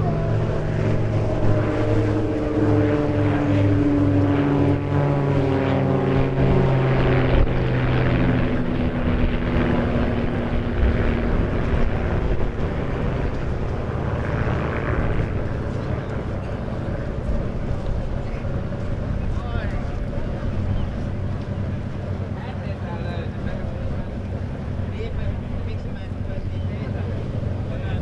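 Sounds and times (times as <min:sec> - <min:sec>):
propeller plane engines droning: 0:00.0 - 0:28.0.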